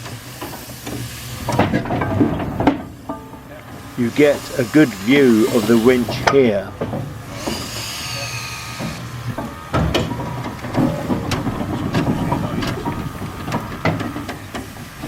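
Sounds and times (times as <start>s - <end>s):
mechanical clanks and knocks: 0.0s - 15.0s
steam engine winch rumbling: 0.0s - 15.0s
steam hiss: 0.0s - 15.0s.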